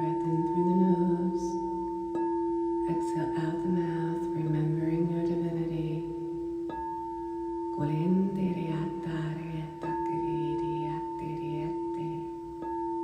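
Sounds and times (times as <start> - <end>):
singing bowl ringing: 0.0 - 13.0.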